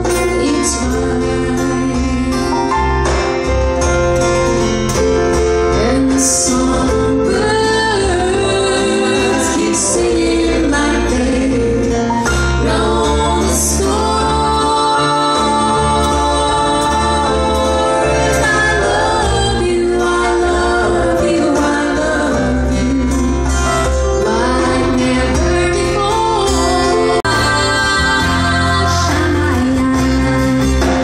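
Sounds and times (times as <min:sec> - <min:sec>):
woman singing: 0:00.0 - 0:02.9, 0:05.7 - 0:31.0
acoustic guitar bass and drums: 0:00.0 - 0:31.0.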